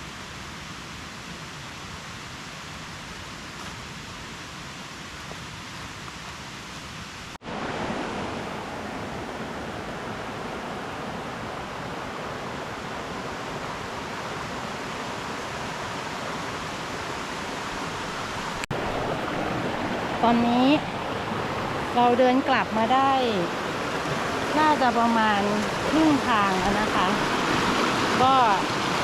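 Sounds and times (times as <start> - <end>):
stream water flowing: 0.0 - 29.0.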